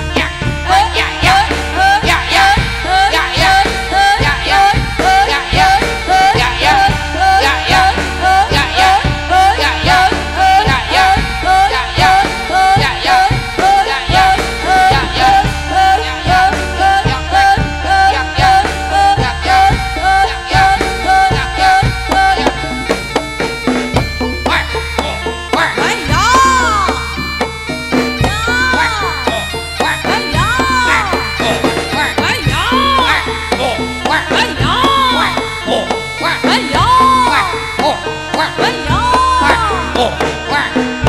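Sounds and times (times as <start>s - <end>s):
drums and pitched percussion: 0.0s - 41.0s.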